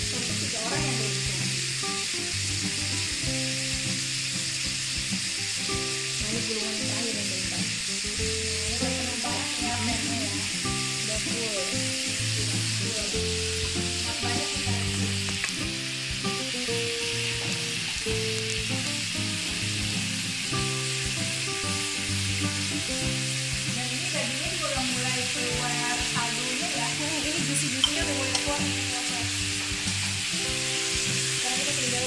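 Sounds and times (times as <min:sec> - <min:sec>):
beef sizzling in a hot pan: 0:00.0 - 0:32.0.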